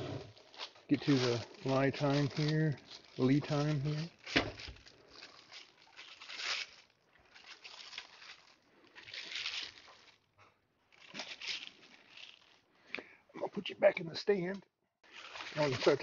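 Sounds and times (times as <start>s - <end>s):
plastic bag crinkling: 0.2s - 12.7s, 15.0s - 16.0s.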